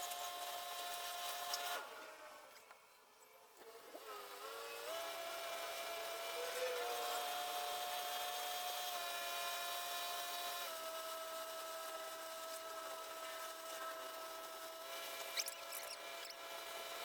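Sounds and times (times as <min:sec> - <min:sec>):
power tool whining: 0:00.0 - 0:02.8, 0:03.6 - 0:17.0.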